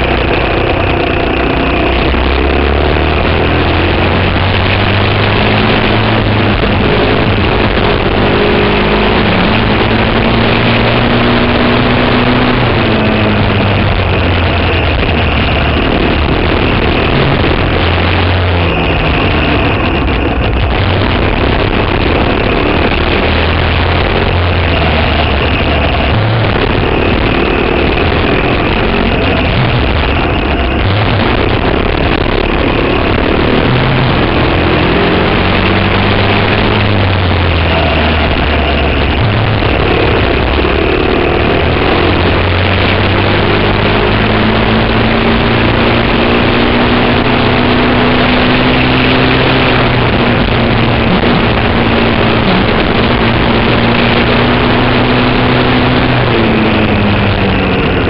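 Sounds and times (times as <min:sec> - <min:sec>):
kart engine revving: 0:00.0 - 0:58.0
wind rush on microphone: 0:00.0 - 0:58.0.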